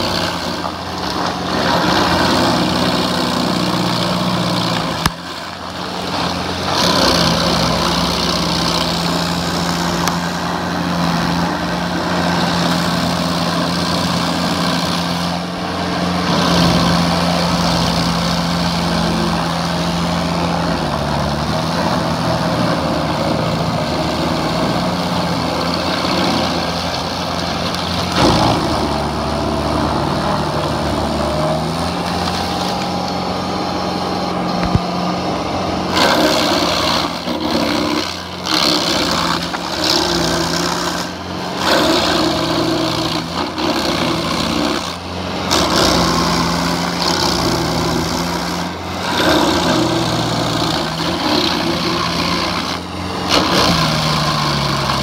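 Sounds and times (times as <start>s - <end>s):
cutter wheel grinding stump: 0.0s - 55.0s
stump grinder engine running: 0.0s - 55.0s.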